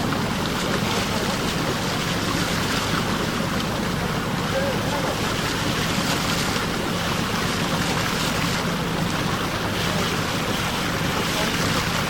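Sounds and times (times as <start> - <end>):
boat engine running: 0.0 - 12.0
water rushing along hull: 0.0 - 12.0.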